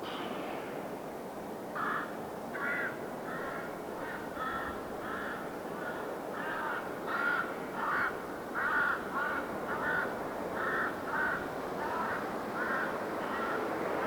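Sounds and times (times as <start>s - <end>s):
crows cawing: 1.8s - 13.7s.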